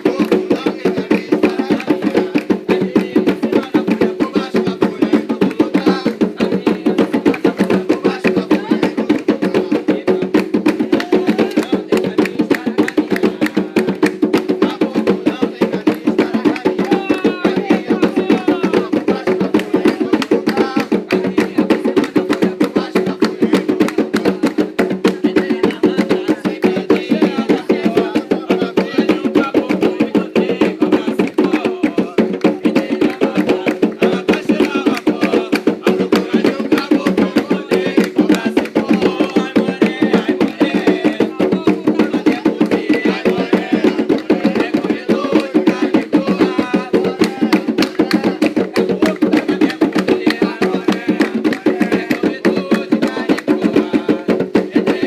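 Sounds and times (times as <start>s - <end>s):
hand drums playing fast rhythm: 0.0s - 55.0s.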